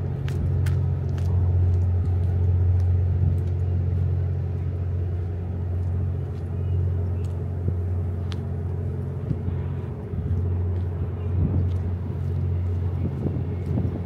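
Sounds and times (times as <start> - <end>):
diesel generators droning: 0.0 - 14.0.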